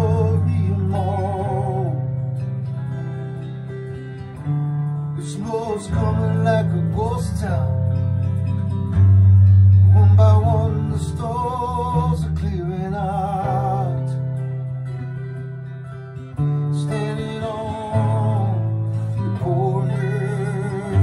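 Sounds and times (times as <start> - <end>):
acoustic guitar melody: 0.0 - 21.0.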